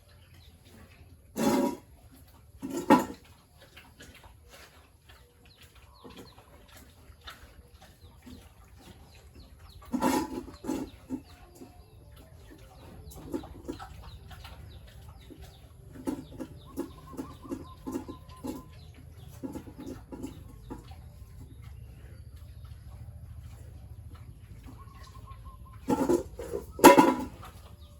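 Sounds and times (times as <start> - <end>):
farm animals calling: 0.0 - 27.9.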